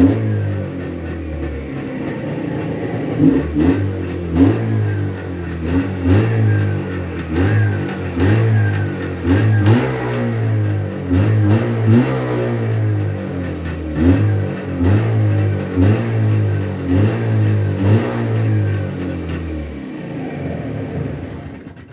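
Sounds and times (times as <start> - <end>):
two-stroke engine revving: 0.0 - 21.9.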